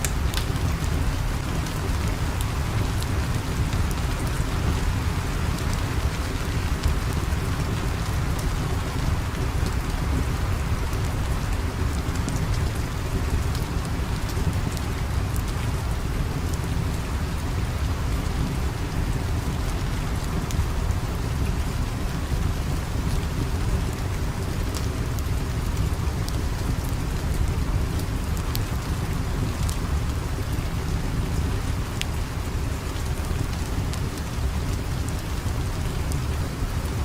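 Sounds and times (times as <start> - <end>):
rain hiss: 0.0 - 37.0.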